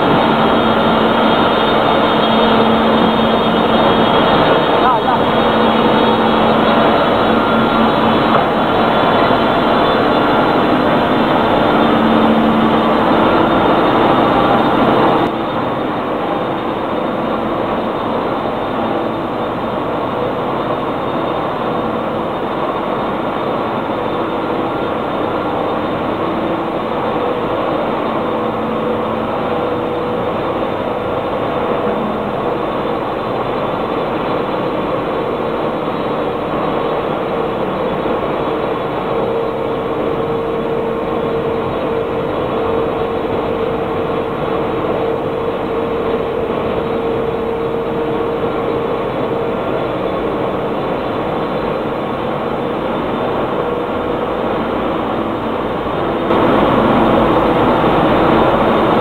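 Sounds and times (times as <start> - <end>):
dense machinery noise: 0.0 - 59.0
machinery hum: 0.0 - 59.0.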